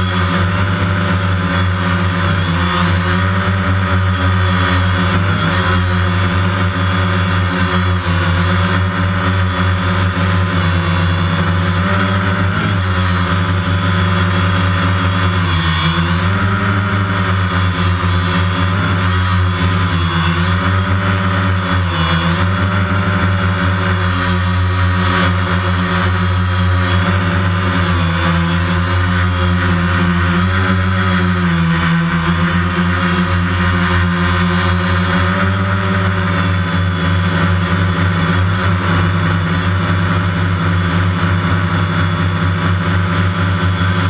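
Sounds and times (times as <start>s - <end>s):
drone motors humming: 0.0s - 44.0s.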